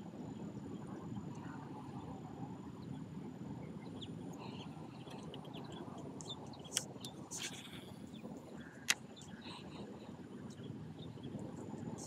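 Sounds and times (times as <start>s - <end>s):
low steady rumble: 0.0s - 12.0s
faint bird chirps: 0.3s - 12.0s.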